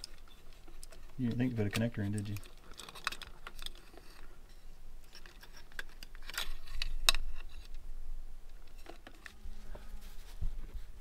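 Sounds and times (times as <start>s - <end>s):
clicks and rustles of wires: 0.0s - 7.8s, 8.4s - 11.0s.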